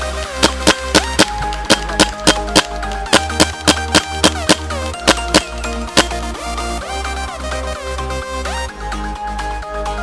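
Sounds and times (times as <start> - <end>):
music with sharp beat and bass: 0.0 - 10.0.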